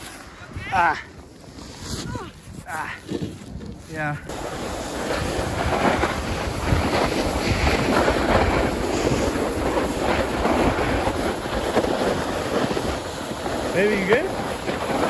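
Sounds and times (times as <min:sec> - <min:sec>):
edges scraping over snow: 0:00.0 - 0:15.0
wind buffeting microphone: 0:00.0 - 0:15.0.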